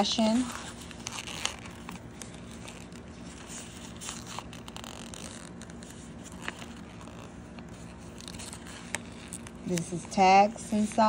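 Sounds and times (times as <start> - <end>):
nylon wallet rustling: 0.0 - 11.0
small ticks and scratches: 0.0 - 11.0.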